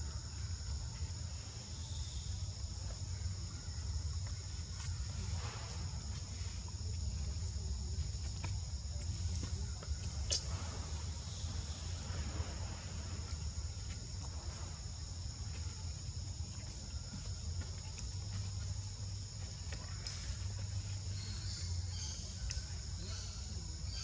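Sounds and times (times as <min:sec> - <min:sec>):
insects droning: 0:00.0 - 0:24.0
low steady rumble: 0:00.0 - 0:24.0.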